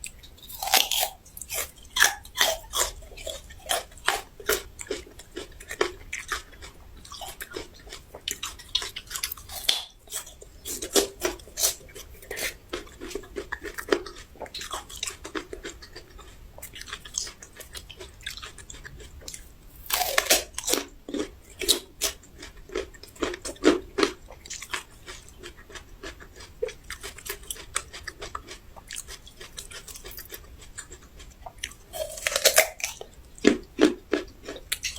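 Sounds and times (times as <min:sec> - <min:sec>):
crunching raw ginger: 0:00.0 - 0:34.9.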